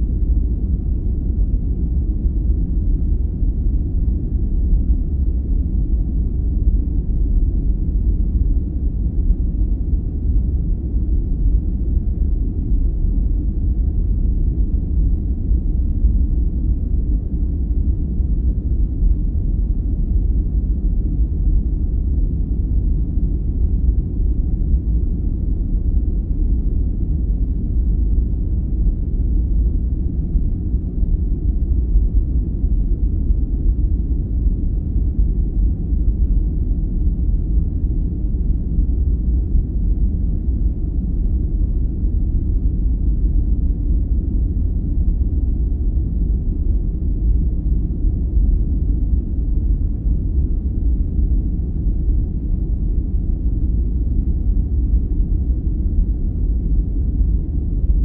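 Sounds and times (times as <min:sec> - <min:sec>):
deep rumbling brown noise: 0:00.0 - 0:58.0.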